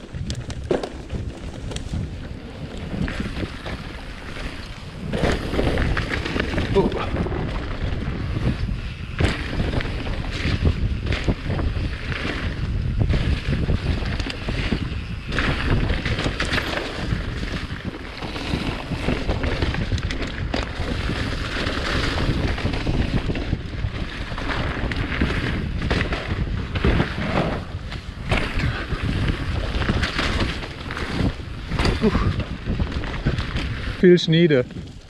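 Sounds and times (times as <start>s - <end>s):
bike clattering over bumps: 0.0s - 34.0s
bike tyres rolling over dirt: 0.0s - 35.0s
wind buffeting microphone: 0.0s - 35.0s.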